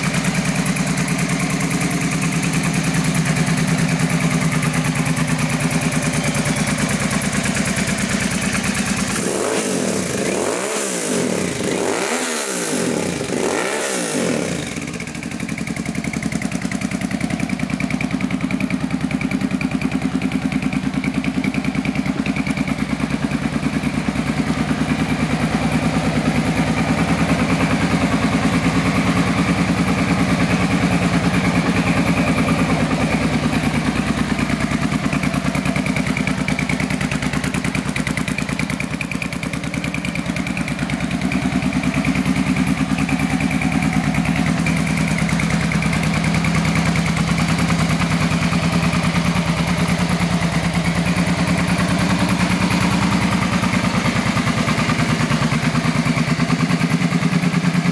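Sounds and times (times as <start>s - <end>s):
motorcycle engine idling: 0.0s - 57.9s.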